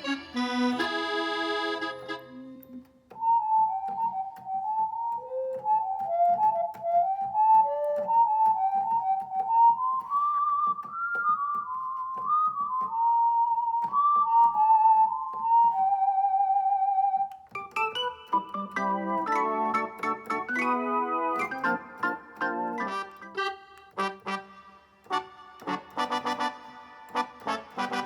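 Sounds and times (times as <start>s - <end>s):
keyboard lead melody: 0.0s - 10.1s, 12.9s - 28.0s.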